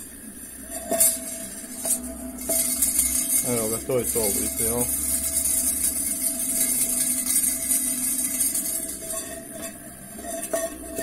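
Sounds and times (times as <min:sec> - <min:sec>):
vibration motor rattling metal tin: 0:00.6 - 0:11.0.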